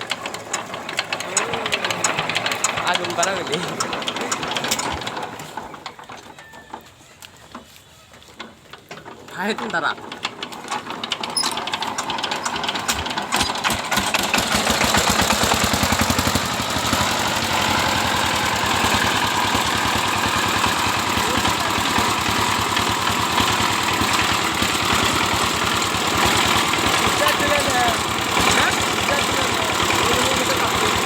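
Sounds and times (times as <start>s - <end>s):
diesel engine knocking: 0.0s - 5.9s, 9.4s - 31.0s.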